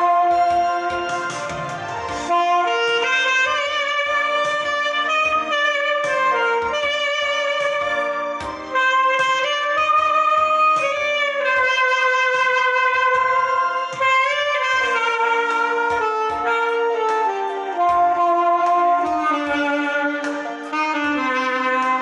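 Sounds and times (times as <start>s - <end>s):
backing track with low beat: 0.0s - 22.0s
saxophone slow melody: 0.0s - 22.0s.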